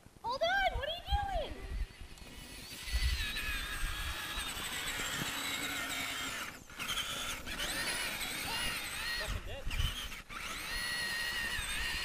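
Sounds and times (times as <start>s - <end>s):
rc truck electric motor whining: 1.7s - 12.0s.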